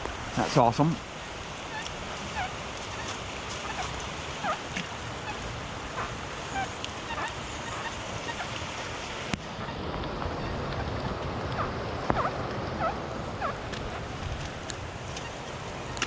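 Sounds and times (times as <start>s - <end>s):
birds calling: 0.0s - 16.0s
rain hiss: 0.0s - 16.0s.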